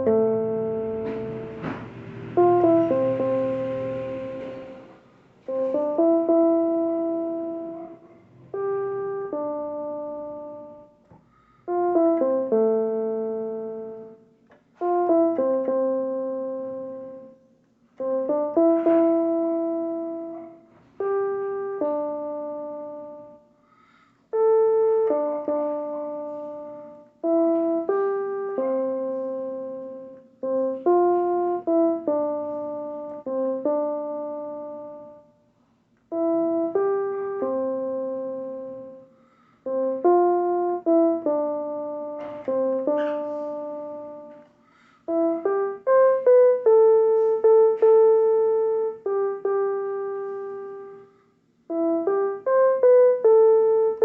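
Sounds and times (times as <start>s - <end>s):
solo piano melody: 0.0s - 23.6s, 24.3s - 54.0s.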